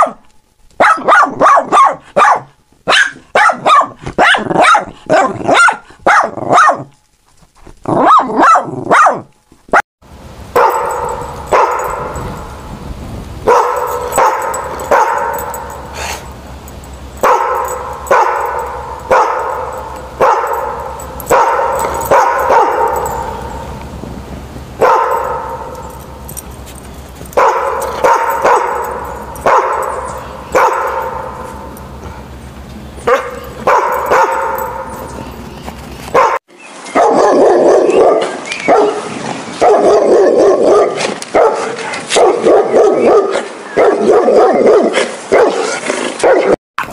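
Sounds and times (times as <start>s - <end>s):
dog barking: 0.0s - 0.2s, 0.8s - 6.9s, 7.9s - 9.8s, 10.6s - 12.4s, 13.4s - 16.0s, 17.2s - 23.6s, 24.8s - 26.4s, 27.3s - 31.7s, 33.0s - 35.1s, 36.1s - 46.6s.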